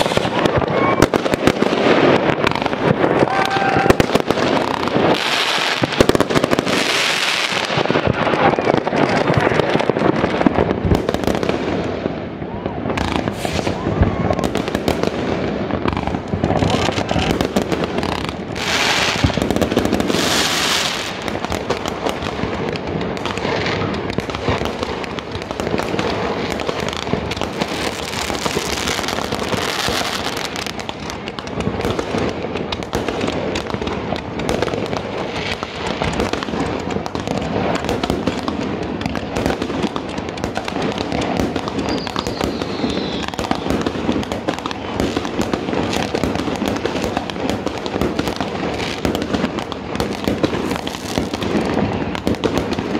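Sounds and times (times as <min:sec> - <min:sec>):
fireworks crackling and banging: 0:00.0 - 0:52.9.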